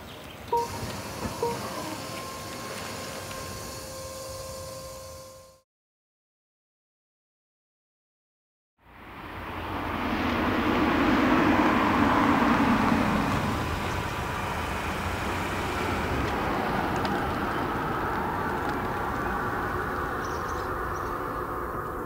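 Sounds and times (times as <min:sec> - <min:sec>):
cars rolling slowly past: 0:00.0 - 0:05.6, 0:08.8 - 0:22.0.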